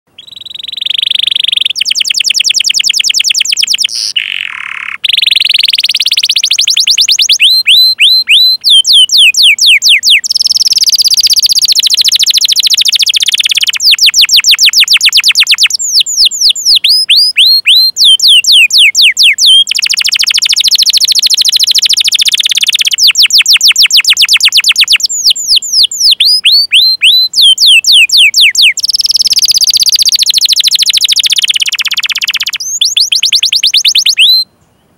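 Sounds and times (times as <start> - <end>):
sharp canary call notes: 0.1 - 34.5
canary singing trills: 0.1 - 34.9.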